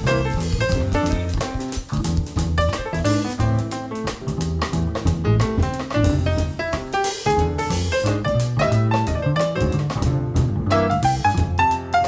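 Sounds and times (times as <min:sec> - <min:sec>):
bass: 0:00.0 - 0:12.0
drum kit: 0:00.0 - 0:12.0
piano: 0:00.0 - 0:12.0.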